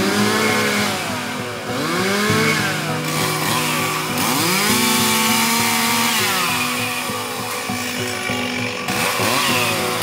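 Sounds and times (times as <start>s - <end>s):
chainsaw engine revving: 0.0s - 10.0s.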